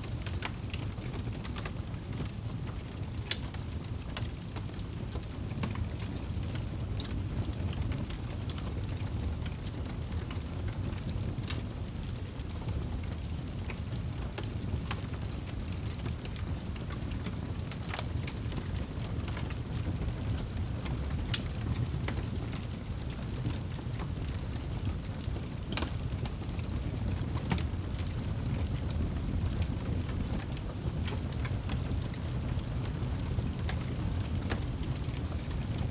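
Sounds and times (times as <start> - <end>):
fire crackling and popping: 0.0 - 35.9
rain: 0.0 - 35.9.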